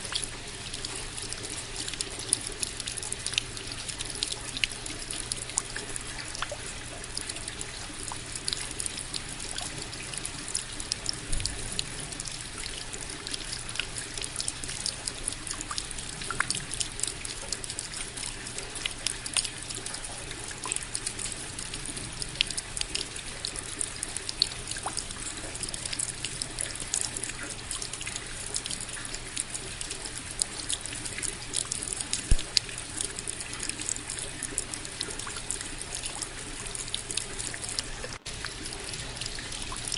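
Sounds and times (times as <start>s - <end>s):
raindrops ticking: 0.0s - 39.9s.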